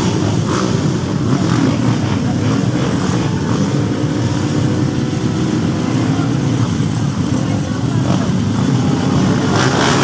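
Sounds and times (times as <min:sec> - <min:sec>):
motorcycle engines racing: 0:00.0 - 0:10.0.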